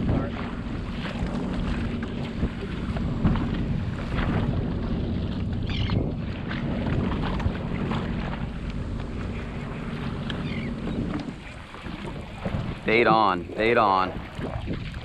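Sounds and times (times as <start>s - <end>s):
watercraft engine idling: 0.0s - 15.0s
wind buffeting microphone: 0.0s - 15.0s.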